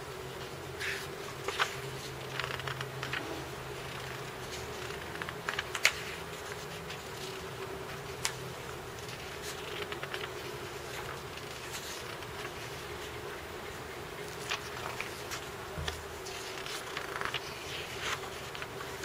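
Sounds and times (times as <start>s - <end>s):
paper pages turning: 0.8s - 19.0s.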